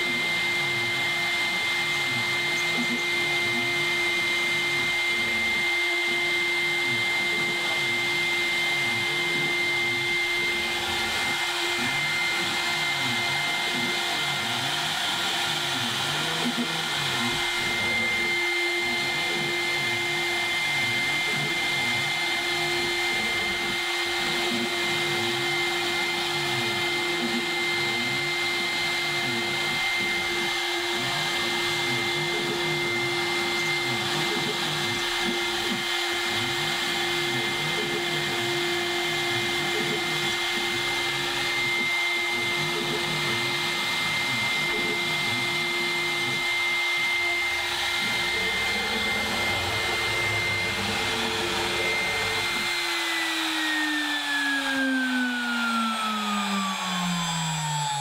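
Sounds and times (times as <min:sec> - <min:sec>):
axis motors humming: 0:00.0 - 0:58.0
router spindle high whine: 0:00.0 - 0:58.0.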